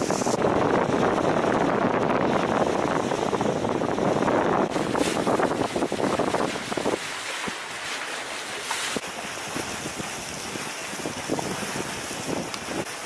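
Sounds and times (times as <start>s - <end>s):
wind buffeting microphone: 0.0s - 8.0s, 8.8s - 13.0s
water splashing and lapping: 2.2s - 13.0s.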